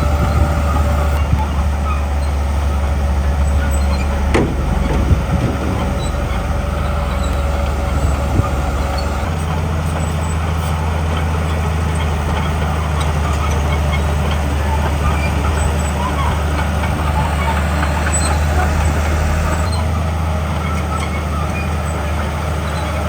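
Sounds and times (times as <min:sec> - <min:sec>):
heavy diesel engine under load: 0:00.0 - 0:23.0.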